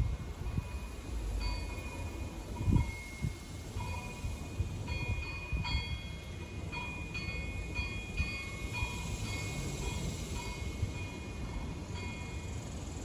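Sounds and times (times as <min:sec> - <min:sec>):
low gusting wind rumble: 0:00.0 - 0:13.0
metal wind chimes ringing: 0:00.5 - 0:12.6.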